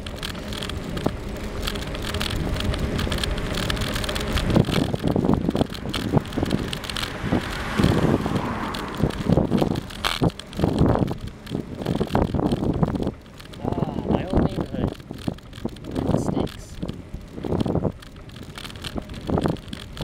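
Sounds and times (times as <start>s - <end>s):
bicycle rolling on pavement: 0.0s - 20.0s
wind buffeting microphone: 0.0s - 20.0s.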